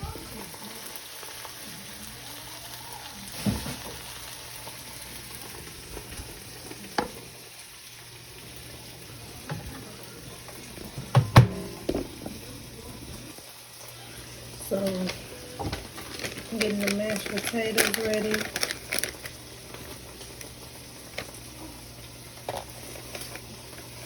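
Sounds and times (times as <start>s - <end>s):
steaks sizzling in a frying pan: 0.0s - 24.0s.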